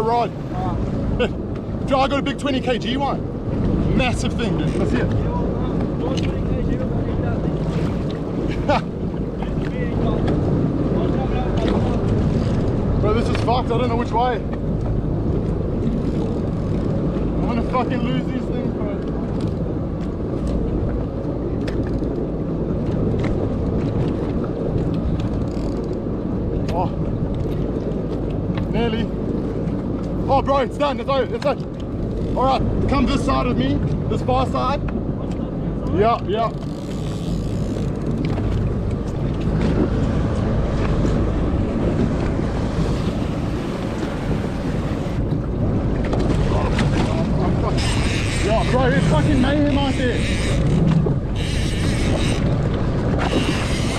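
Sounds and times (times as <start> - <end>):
boat motor rumbling: 0.0 - 53.9
water noise: 0.0 - 53.9
wind: 0.0 - 53.9.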